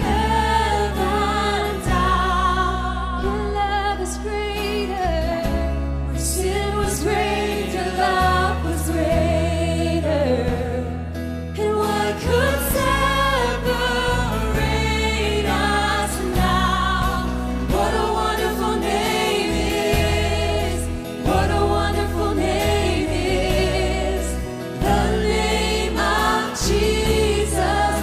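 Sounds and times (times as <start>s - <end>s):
worship band playing and singing: 0.0s - 28.0s.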